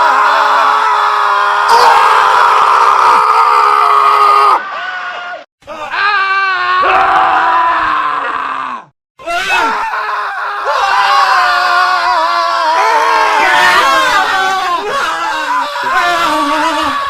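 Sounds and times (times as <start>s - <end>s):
men screaming: 0.0s - 17.0s.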